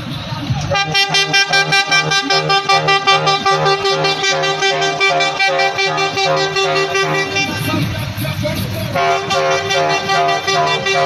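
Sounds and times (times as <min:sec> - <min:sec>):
minibus horn pulsing: 0:00.7 - 0:08.1, 0:08.9 - 0:11.0.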